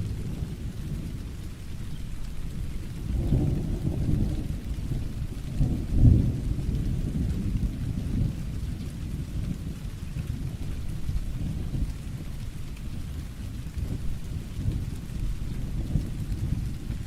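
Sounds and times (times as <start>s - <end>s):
low rolling thunder: 0.0s - 17.0s
steady rain: 0.0s - 17.0s.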